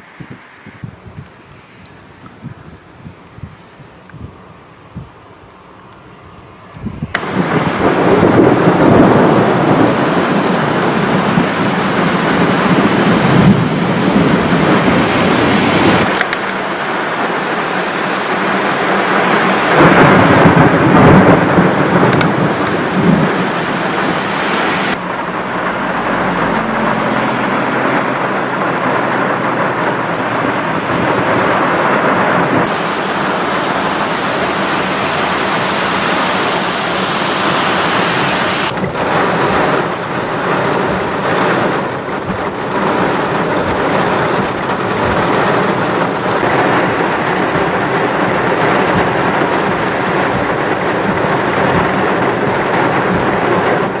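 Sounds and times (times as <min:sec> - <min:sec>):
heavy rain pouring: 0:06.6 - 0:54.0
thunder rumbling: 0:06.8 - 0:54.0.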